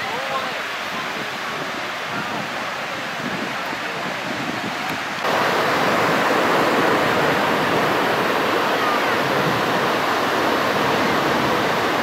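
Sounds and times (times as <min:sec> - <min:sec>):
ocean surf breaking on beach: 0:00.0 - 0:12.0.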